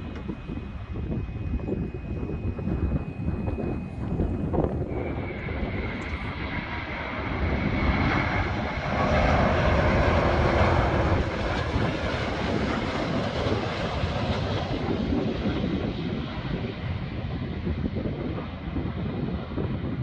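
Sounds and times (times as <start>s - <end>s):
high jet whine: 0.0s - 18.6s
jet engine rumble: 0.0s - 20.0s.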